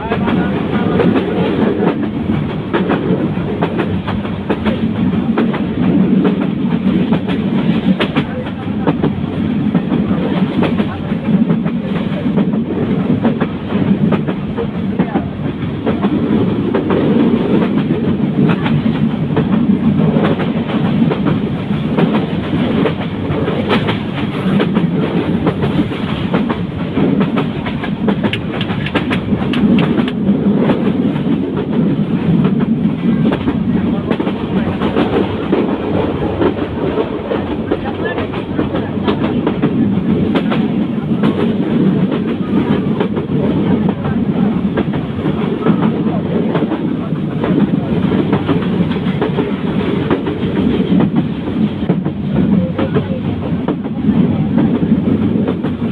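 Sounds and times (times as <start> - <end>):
train rumble: 0.0 - 55.9.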